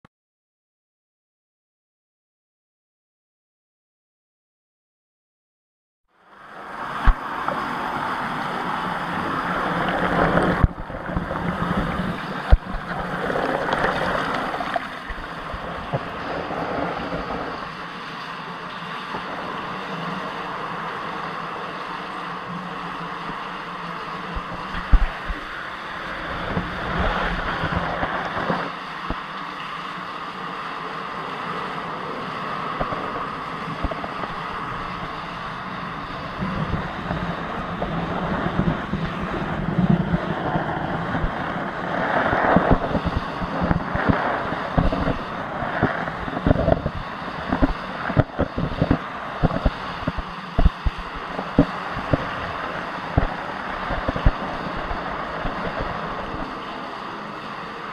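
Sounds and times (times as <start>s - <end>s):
faint steady hum: 6.1s - 57.9s
water rushing and churning: 6.2s - 57.9s.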